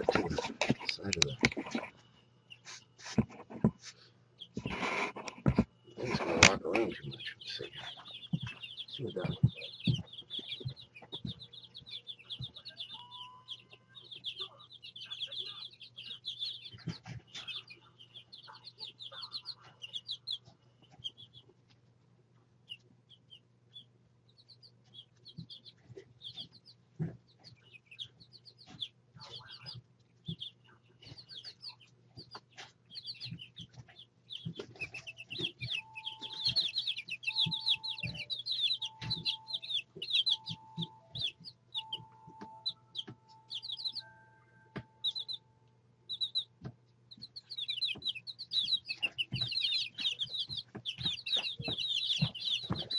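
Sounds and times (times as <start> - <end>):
baby chicks peeping: 0.0 - 52.9.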